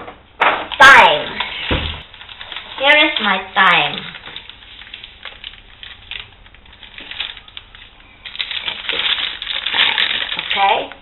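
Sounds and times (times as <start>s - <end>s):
plastic bag crinkling: 0.7s - 11.0s.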